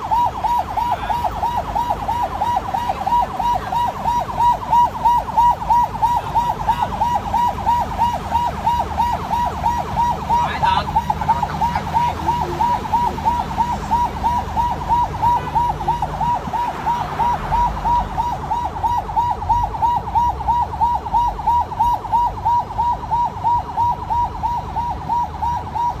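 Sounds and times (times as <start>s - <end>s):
ambulance siren yelping: 0.0s - 26.0s
low rumble of vehicle engines: 0.0s - 26.0s.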